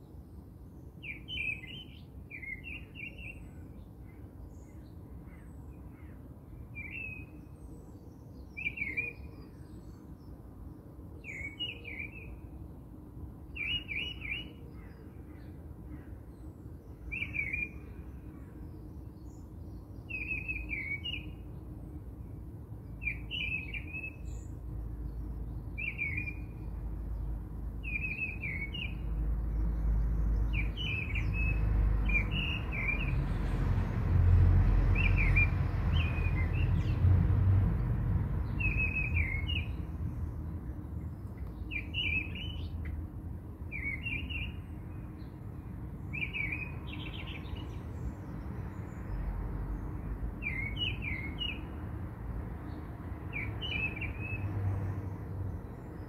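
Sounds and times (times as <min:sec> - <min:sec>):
bird chirping: 0:01.0 - 0:10.3, 0:11.2 - 0:12.5, 0:13.5 - 0:15.6, 0:16.3 - 0:21.6, 0:22.8 - 0:33.6, 0:34.9 - 0:37.0, 0:38.4 - 0:43.0, 0:43.7 - 0:45.4, 0:46.1 - 0:51.8, 0:52.7 - 0:56.0.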